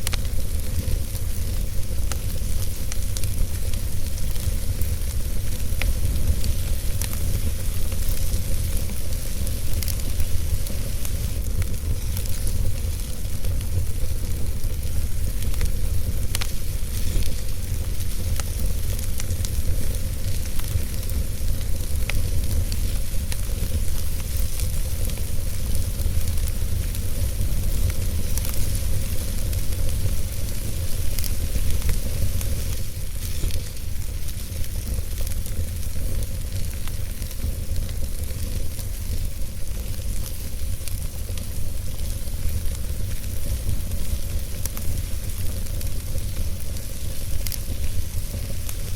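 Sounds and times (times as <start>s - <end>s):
fire crackles: 0.0s - 48.9s
fireplace fire rumbling: 0.0s - 48.9s.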